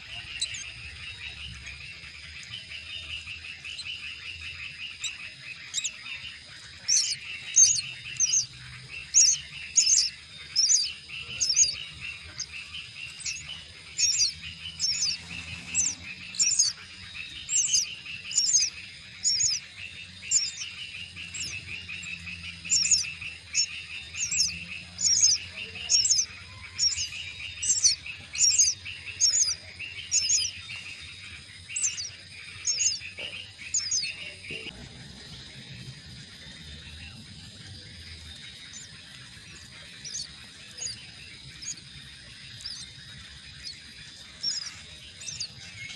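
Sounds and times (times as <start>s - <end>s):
bird chirping: 0.0s - 45.9s
insects trilling: 0.0s - 45.9s.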